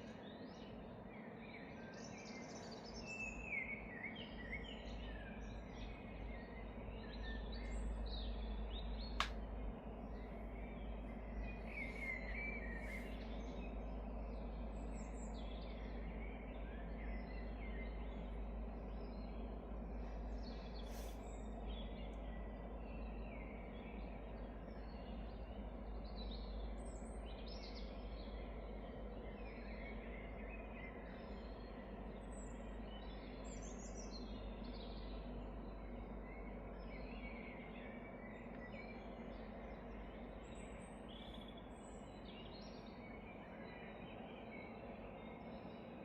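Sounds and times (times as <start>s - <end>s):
steady low rumble: 4.6s - 46.0s.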